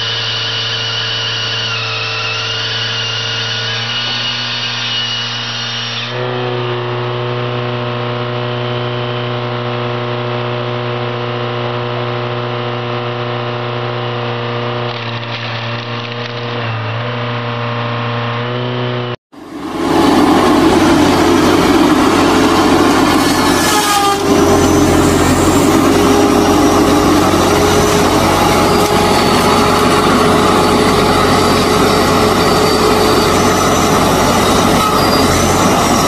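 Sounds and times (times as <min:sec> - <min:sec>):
chainsaw cutting through log: 0:00.0 - 0:36.0
engine and hydraulic drone: 0:00.0 - 0:36.0.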